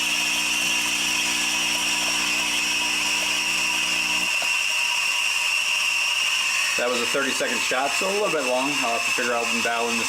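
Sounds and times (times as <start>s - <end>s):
espresso machine pump humming: 0.0s - 10.0s
steam wand hissing: 0.0s - 10.0s.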